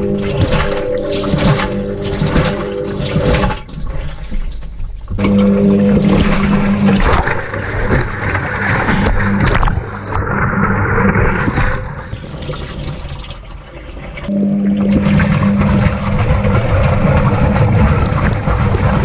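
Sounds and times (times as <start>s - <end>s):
washing machine low hum: 0.0s - 19.0s
water sloshing in washing machine: 0.0s - 19.0s.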